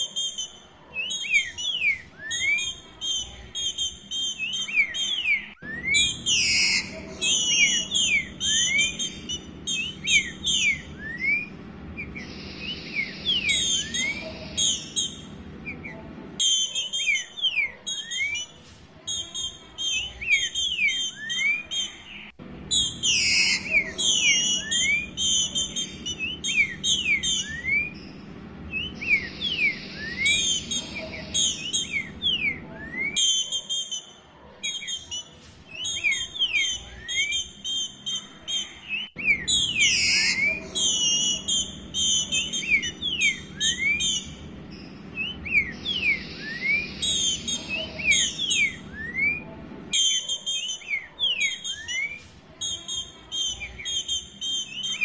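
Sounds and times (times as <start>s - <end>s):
bird whistling rising notes: 0.0s - 55.0s
fast high twittering: 0.0s - 55.0s.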